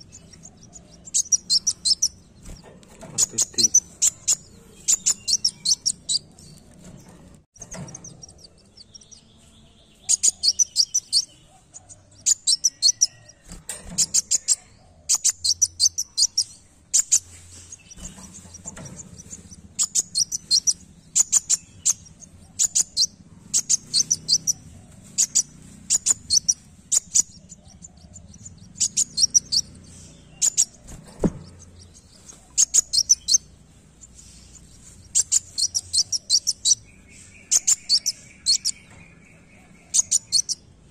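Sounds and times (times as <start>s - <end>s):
sunbird high sharp chirps: 0.0s - 6.7s, 7.6s - 40.8s.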